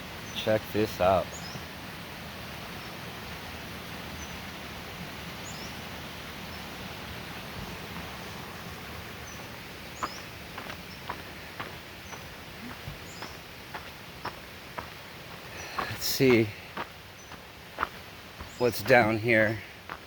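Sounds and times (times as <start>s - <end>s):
creek flowing: 0.0s - 20.0s
small birds chirping: 0.1s - 1.8s, 4.1s - 4.6s, 5.3s - 20.0s.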